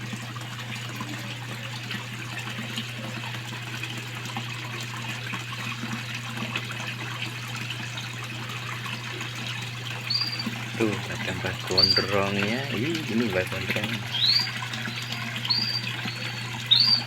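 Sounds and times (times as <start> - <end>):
water splashing into pond: 0.0 - 17.0.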